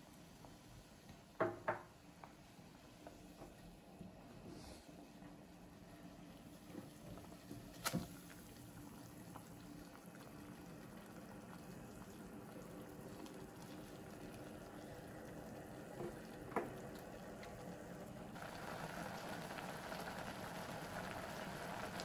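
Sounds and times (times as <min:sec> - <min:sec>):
broth simmering in a saucepan: 0:00.0 - 0:22.0.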